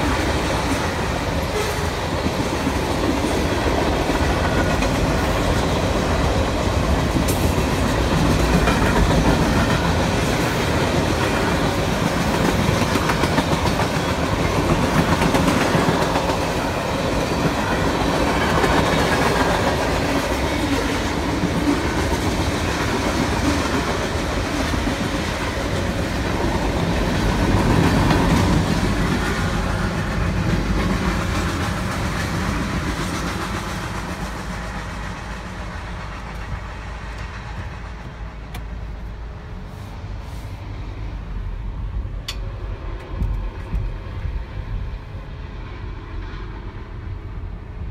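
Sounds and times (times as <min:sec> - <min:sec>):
freight train wheels clacking on rails: 0:00.0 - 0:38.8.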